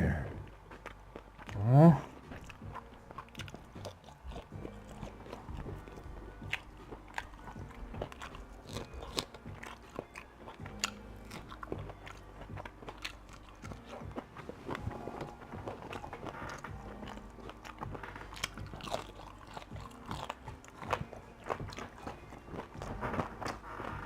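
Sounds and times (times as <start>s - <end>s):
person chewing crunchy food: 0.0s - 24.0s
wet mouth clicks: 0.7s - 22.2s.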